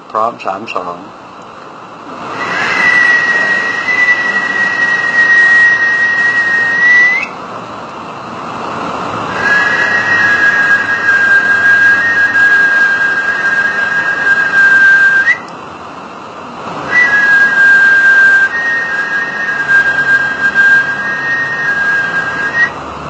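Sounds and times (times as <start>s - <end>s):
loud rushing noise: 0.8s - 23.0s
steady high whistling tone: 1.9s - 7.4s, 8.0s - 23.0s.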